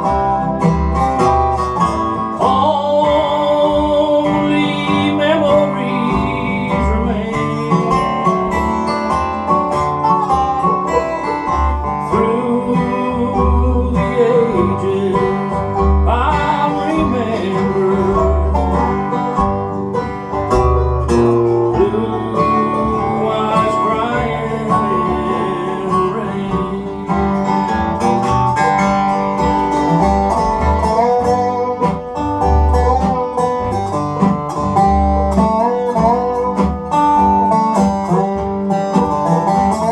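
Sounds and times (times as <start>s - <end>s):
acoustic guitar: 0.0s - 39.9s
dobro: 0.0s - 39.9s
upright bass: 0.0s - 39.9s.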